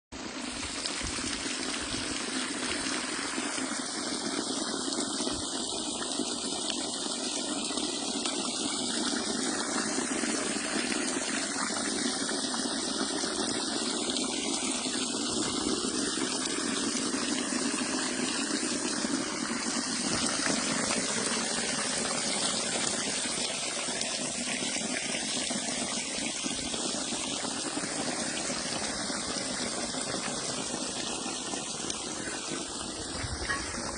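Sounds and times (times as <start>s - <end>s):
water splashing into a stream: 0.2s - 33.9s.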